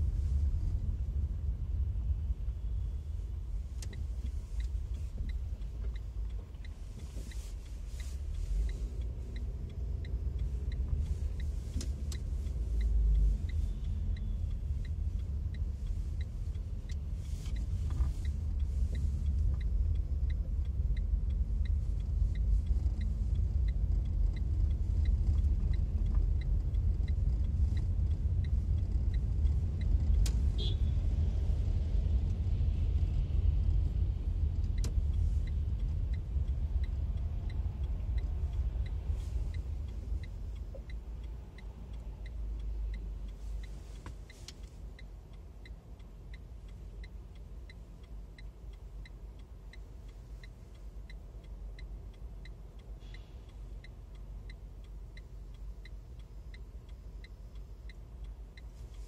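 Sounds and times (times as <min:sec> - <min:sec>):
engine and tyre rumble: 0:00.0 - 0:59.0
faint regular ticking: 0:00.0 - 0:59.0.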